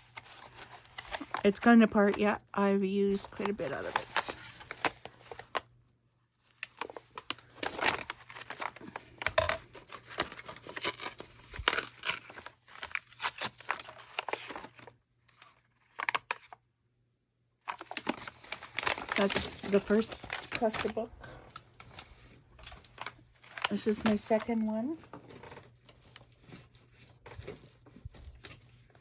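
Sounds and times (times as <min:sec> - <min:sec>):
paper pages rustling: 0:00.0 - 0:02.4, 0:03.0 - 0:05.7, 0:06.5 - 0:16.6, 0:17.7 - 0:29.0.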